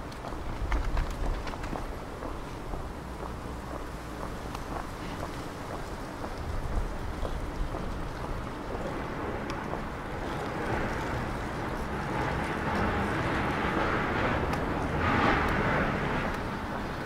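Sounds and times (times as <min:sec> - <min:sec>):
wind rumbling on microphone: 0:00.0 - 0:17.0
passing road vehicle hiss: 0:01.6 - 0:17.0.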